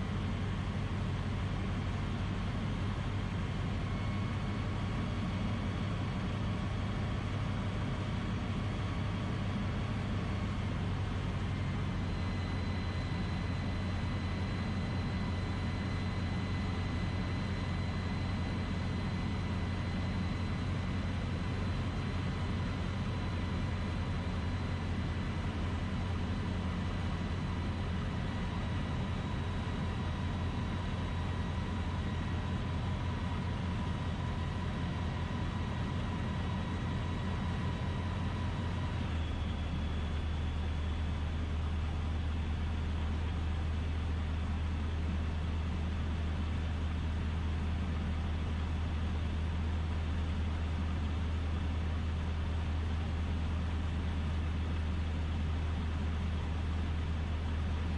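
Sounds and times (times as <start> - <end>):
propeller plane engine drone: 0.0 - 57.9.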